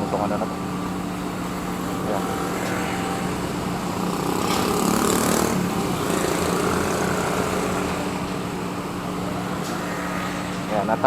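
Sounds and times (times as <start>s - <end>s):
engine running with low hum: 0.0s - 11.0s.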